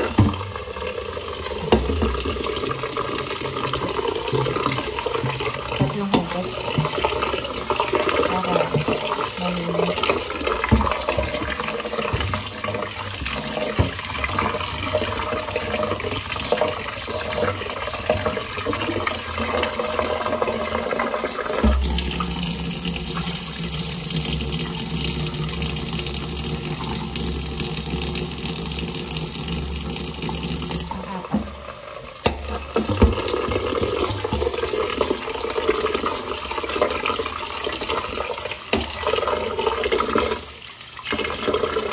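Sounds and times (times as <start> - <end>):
tap water splashing into pot: 0.0 - 41.9.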